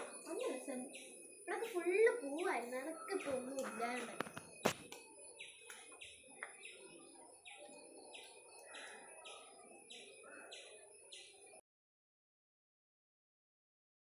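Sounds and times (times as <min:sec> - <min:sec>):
bird chirping faintly: 0:00.0 - 0:11.6.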